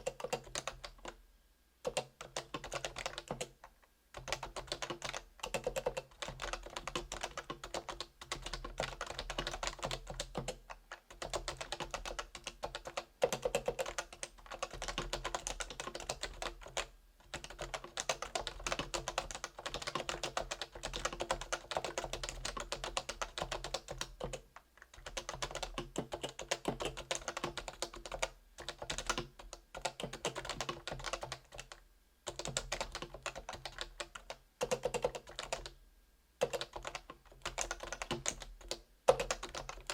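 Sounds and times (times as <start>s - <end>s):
keyboard typing: 0.0s - 1.2s, 1.8s - 35.8s, 36.4s - 39.9s.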